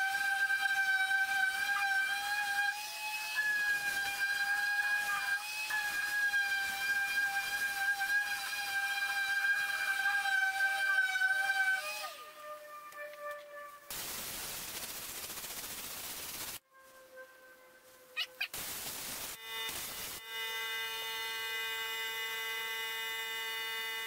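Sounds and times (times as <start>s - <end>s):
orbital sander whining: 0.0s - 13.6s, 18.3s - 24.0s.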